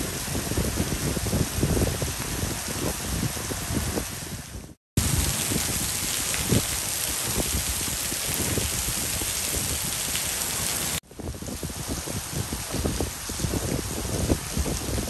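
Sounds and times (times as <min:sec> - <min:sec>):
heavy rain pouring: 0:00.0 - 0:15.0
low gusty rumbles: 0:00.0 - 0:15.0.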